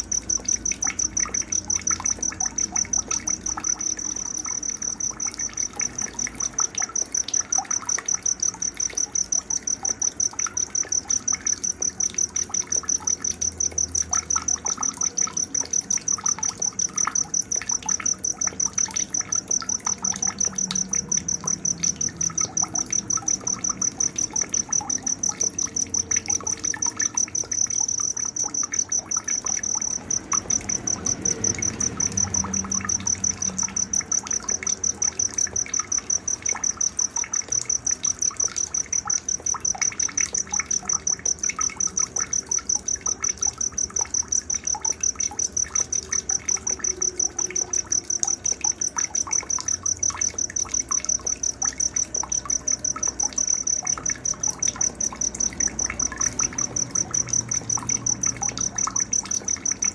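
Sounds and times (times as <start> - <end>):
cricket chirping: 0.0 - 59.9
faint water trickle: 0.0 - 59.9.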